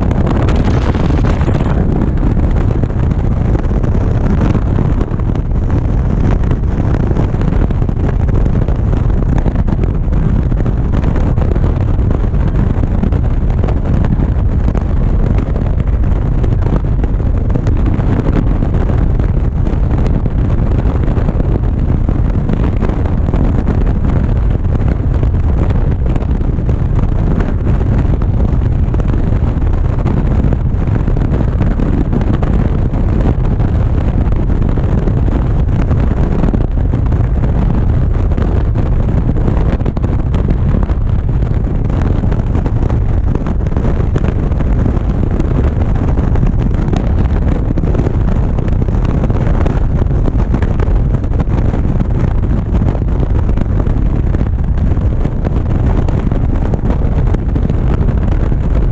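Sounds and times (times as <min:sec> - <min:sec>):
motorcycle engine drone: 0:00.0 - 0:58.9
wind buffeting microphone: 0:00.0 - 0:58.9.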